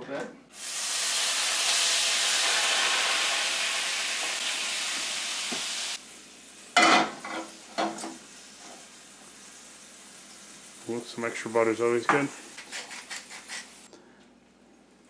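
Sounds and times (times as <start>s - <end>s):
liquid sizzling in hot pan: 0.5s - 13.9s.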